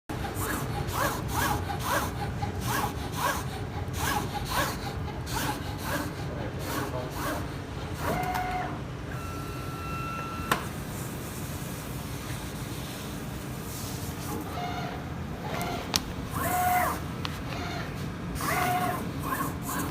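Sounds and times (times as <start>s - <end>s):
cutting plotter motors whining: 0.1s - 10.7s, 14.2s - 19.9s.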